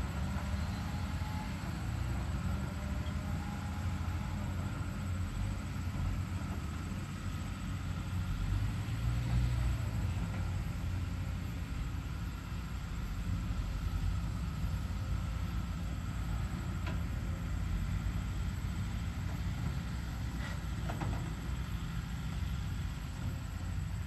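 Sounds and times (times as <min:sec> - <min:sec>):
diesel engine rumbling: 0:00.0 - 0:24.0
faint steady whine: 0:00.0 - 0:24.0.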